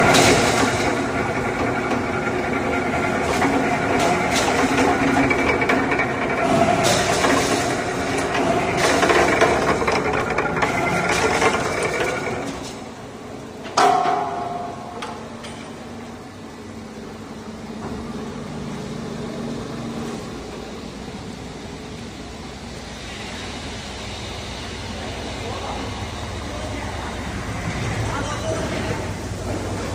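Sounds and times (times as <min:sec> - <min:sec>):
debarking machine clatter and rumble: 0:00.0 - 0:29.9.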